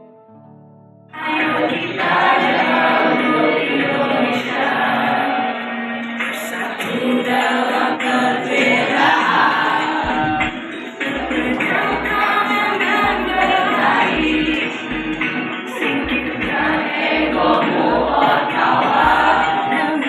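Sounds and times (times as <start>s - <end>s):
children singing in unison: 1.2s - 20.0s.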